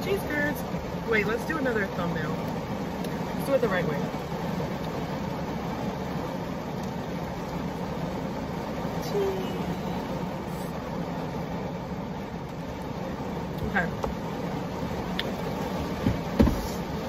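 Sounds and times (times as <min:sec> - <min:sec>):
heavy rain on car roof: 0:00.0 - 0:17.0.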